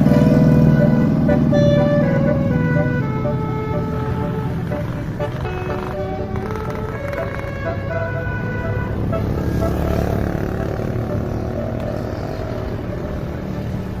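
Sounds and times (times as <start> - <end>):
bus engine rumble: 0.0 - 14.0
bus multi-tone horn: 0.0 - 14.0.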